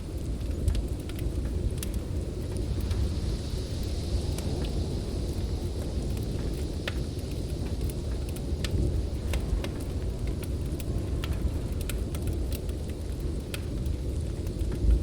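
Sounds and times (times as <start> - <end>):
storm wind roaring: 0.0 - 15.0
wood fire crackling: 0.0 - 15.0.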